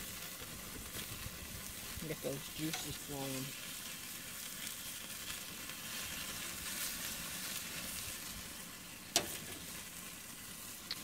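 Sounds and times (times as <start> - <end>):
patty sizzling on a grill: 0.0 - 11.0.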